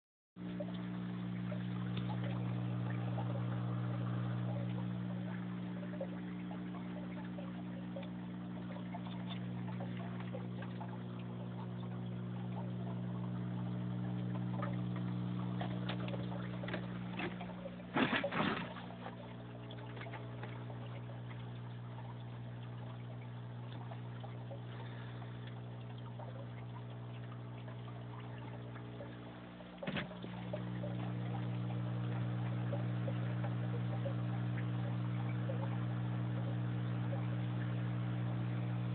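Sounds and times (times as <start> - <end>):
aquarium filter hum: 0.4 - 38.9
water trickling: 0.4 - 38.9.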